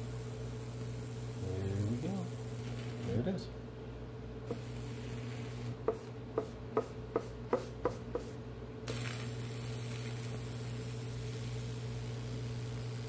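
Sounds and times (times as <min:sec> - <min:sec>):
electrical hum with hiss: 0:00.0 - 0:13.0.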